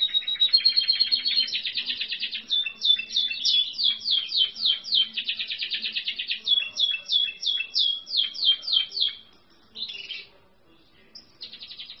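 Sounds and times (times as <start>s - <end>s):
canary singing trills: 0.0s - 10.4s, 11.0s - 12.0s.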